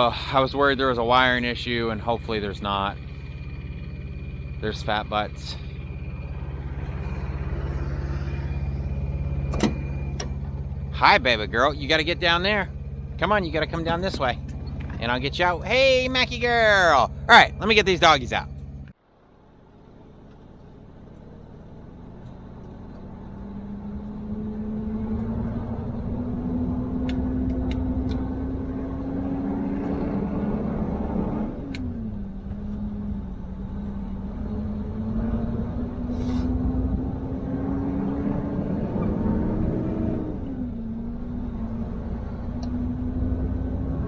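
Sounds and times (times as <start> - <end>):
road rumble: 0.0 - 44.0
truck engine accelerating: 0.0 - 44.0.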